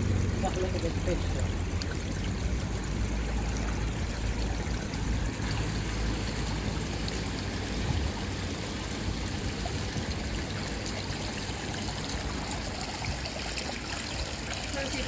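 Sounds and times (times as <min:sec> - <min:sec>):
pond water trickling: 0:00.0 - 0:15.0.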